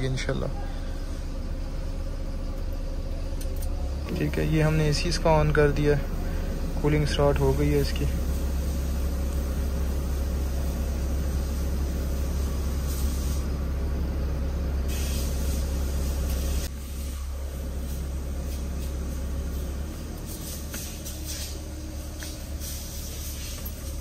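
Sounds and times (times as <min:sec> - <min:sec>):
air conditioning blower rushing: 0:00.0 - 0:24.0
car engine idling: 0:00.0 - 0:24.0.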